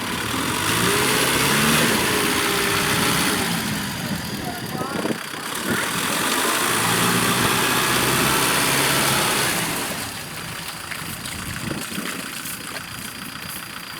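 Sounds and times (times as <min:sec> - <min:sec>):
tractor diesel engine running: 0:00.0 - 0:13.9.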